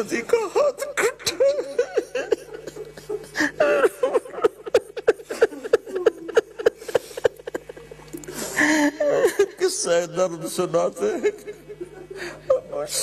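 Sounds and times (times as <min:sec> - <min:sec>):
man sobbing: 0:00.1 - 0:10.0, 0:10.8 - 0:13.0.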